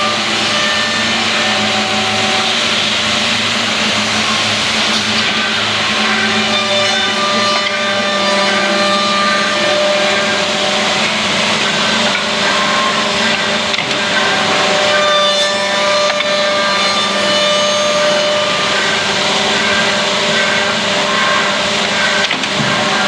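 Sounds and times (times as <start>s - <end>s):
milling machine whirring: 0.0s - 23.0s
wood cutting noise: 0.0s - 23.0s.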